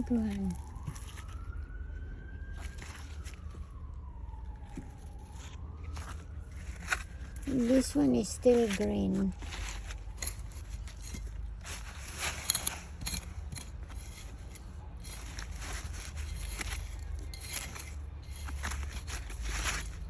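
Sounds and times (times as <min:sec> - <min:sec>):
digging through soil: 0:00.0 - 0:20.0.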